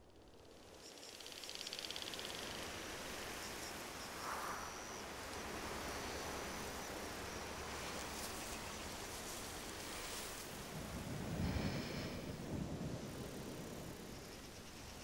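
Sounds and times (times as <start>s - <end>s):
high insect trills: 0.4s - 15.0s.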